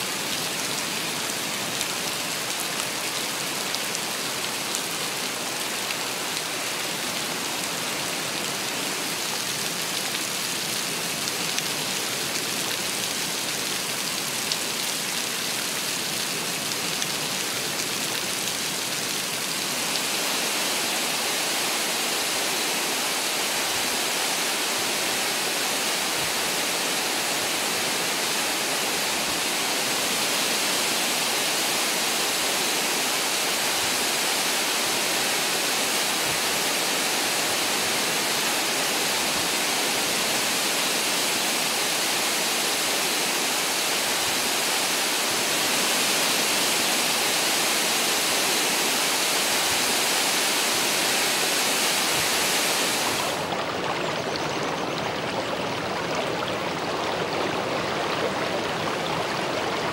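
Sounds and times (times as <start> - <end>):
heavy rainfall: 0.0 - 59.9.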